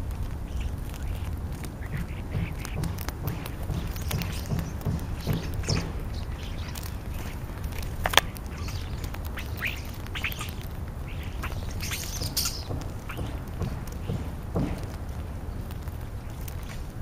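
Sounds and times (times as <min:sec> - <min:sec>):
starlings squawking and chattering: 0:00.0 - 0:17.0.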